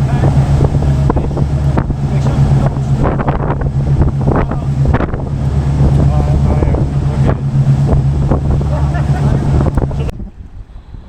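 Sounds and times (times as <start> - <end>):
boat engine droning: 0.0 - 11.0
water noise: 0.0 - 11.0
wind buffeting microphone: 0.0 - 11.0.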